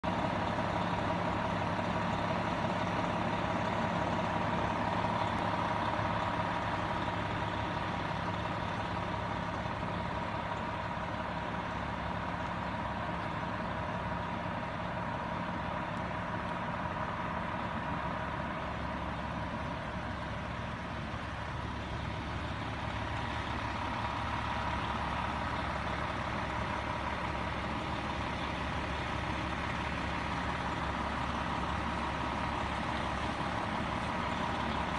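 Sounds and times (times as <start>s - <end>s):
fire truck engine idling: 0.0s - 34.9s.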